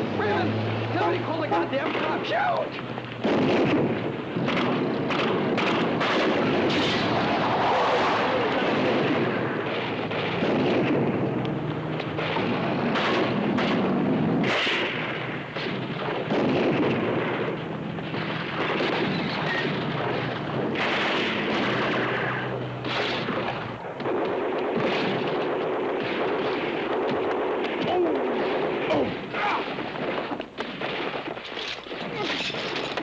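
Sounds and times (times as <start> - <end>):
dense continuous noise: 0.0 - 33.0
gunshots: 0.0 - 33.0.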